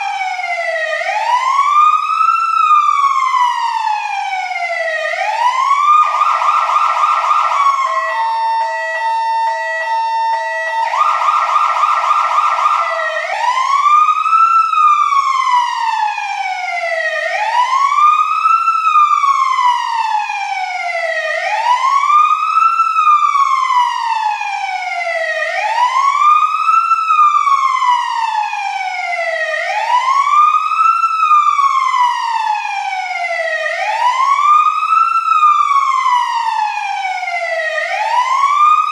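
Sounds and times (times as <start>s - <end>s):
fire truck siren: 0.0s - 38.9s.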